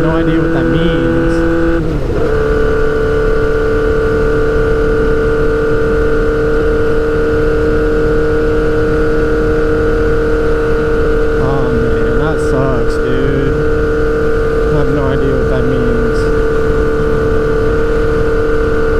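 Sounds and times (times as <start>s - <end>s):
motorcycle engine humming: 0.0s - 18.9s.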